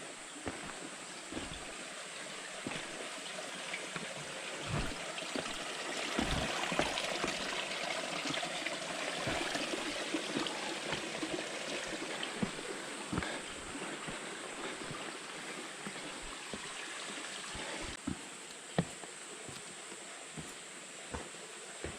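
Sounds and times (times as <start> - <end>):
stream rushing: 0.0 - 18.0.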